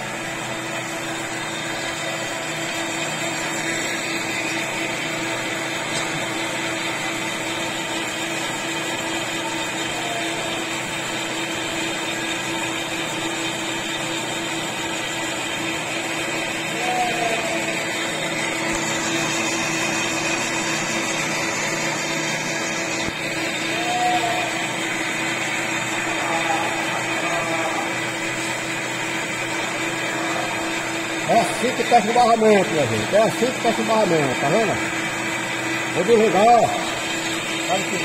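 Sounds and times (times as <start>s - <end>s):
metal lathe humming: 0.0s - 38.0s.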